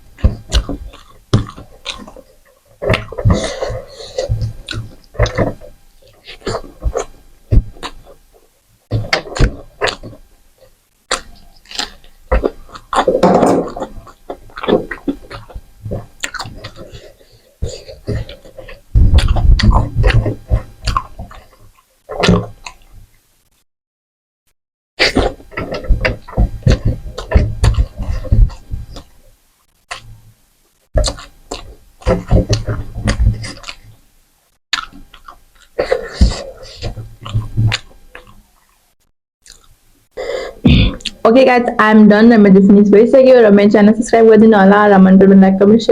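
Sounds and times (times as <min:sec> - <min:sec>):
wet chewing and mouth clicks: 0:00.0 - 0:23.2, 0:25.0 - 0:30.2, 0:31.0 - 0:34.0, 0:34.7 - 0:41.2.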